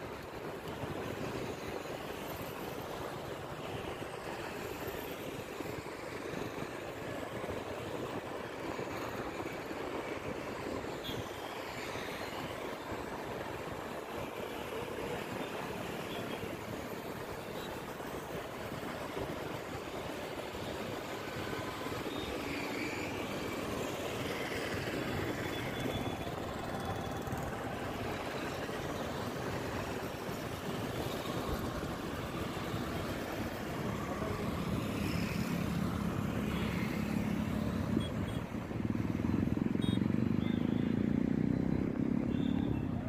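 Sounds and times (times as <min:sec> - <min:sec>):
motorcycles and cars passing: 0:00.0 - 0:43.0
road traffic noise: 0:00.0 - 0:43.0.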